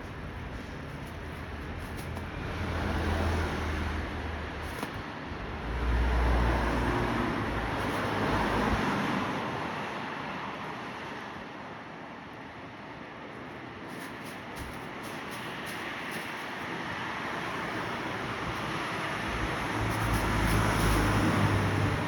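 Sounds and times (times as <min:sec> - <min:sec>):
road vehicle passing: 0:00.0 - 0:11.2, 0:13.8 - 0:22.0.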